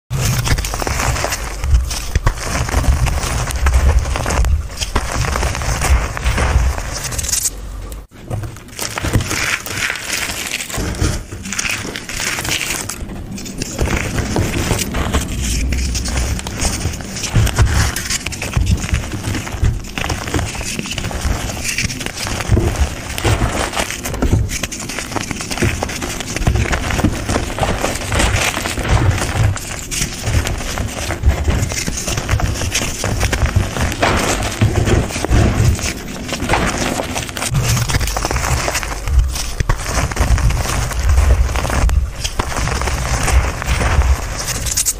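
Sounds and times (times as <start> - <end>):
chalky block crumbling: 0.1 - 44.9
powdery chunks crunching: 0.1 - 44.9.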